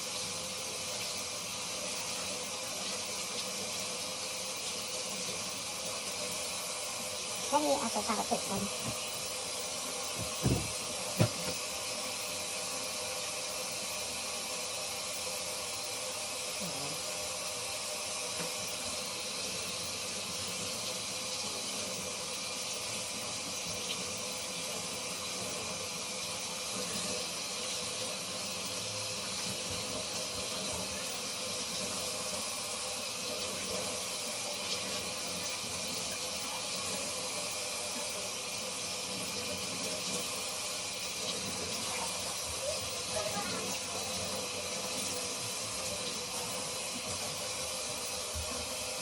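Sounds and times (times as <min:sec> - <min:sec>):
tap water running into sink: 0:00.0 - 0:49.0.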